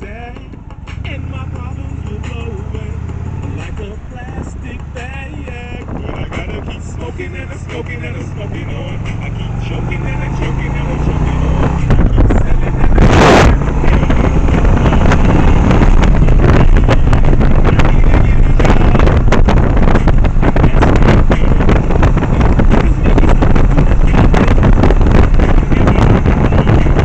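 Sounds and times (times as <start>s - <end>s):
motorcycle engine rumble: 0.0s - 27.0s
wind buffeting microphone: 3.0s - 27.0s.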